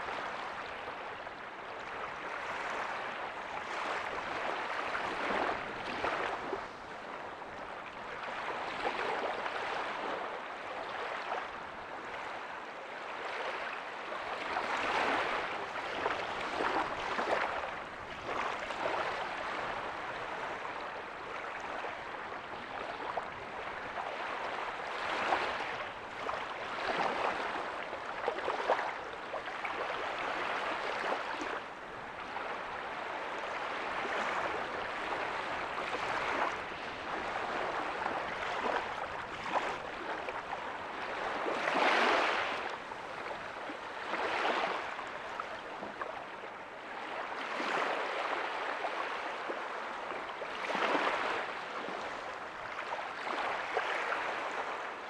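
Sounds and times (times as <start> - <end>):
small waves breaking on a beach: 0.0 - 55.0.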